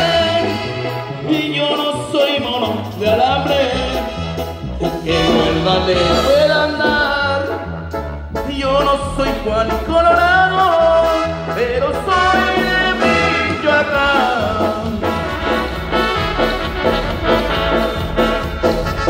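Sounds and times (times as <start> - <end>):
live band playing melody: 0.0 - 19.0
rhythmic bass line: 0.0 - 19.0.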